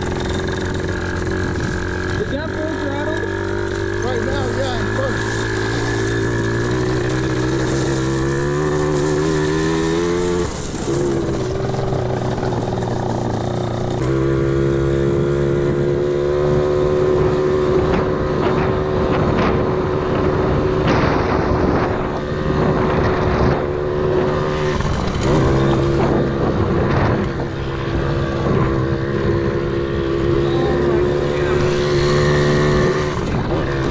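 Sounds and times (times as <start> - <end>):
motorbike engine revving: 0.0 - 33.9.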